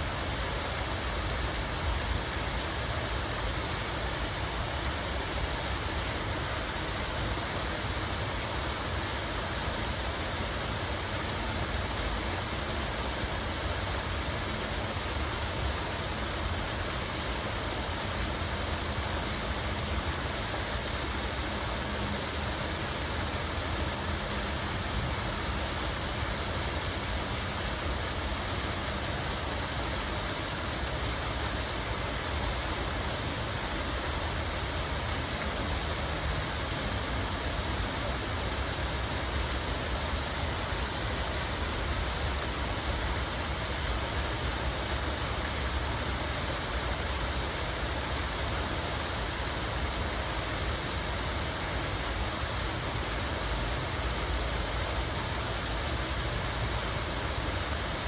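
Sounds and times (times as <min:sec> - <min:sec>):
water flowing and splashing: 0:00.0 - 0:58.0.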